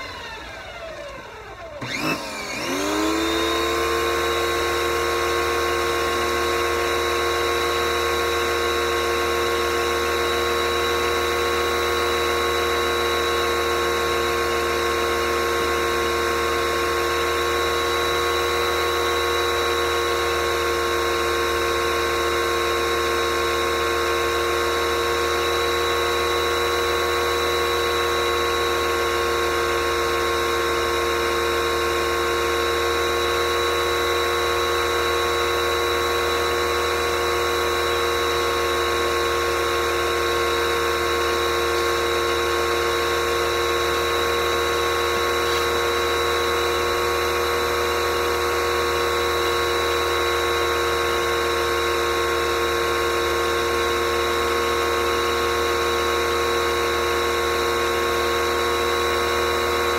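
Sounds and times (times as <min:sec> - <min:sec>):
pressure washer motor whining: 0:00.0 - 0:59.9.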